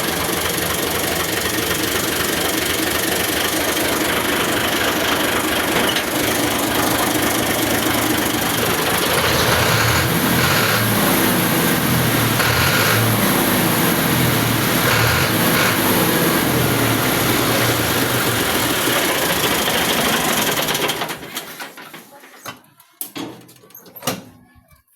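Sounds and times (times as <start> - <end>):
tractor engine running: 0.0 - 21.9.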